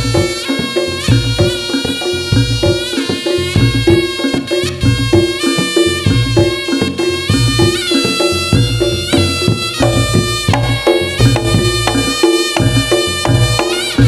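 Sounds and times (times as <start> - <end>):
drums beating steadily: 0.0 - 14.0
shawm nasal melody: 0.0 - 14.0.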